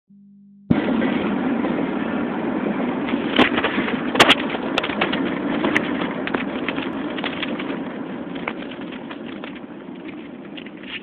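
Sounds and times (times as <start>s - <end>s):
street traffic noise: 0.7s - 11.0s.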